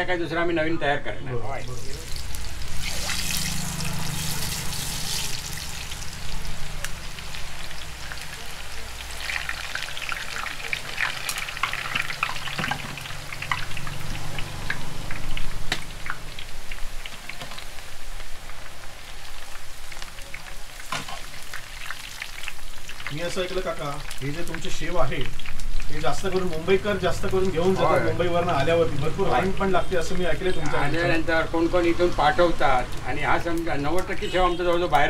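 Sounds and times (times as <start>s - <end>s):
food sizzling in hot oil: 1.6s - 35.0s.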